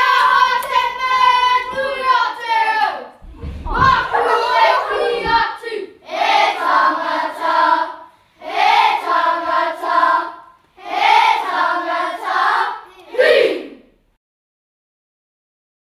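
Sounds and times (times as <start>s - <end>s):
children singing in unison: 0.0s - 2.4s, 3.2s - 13.8s.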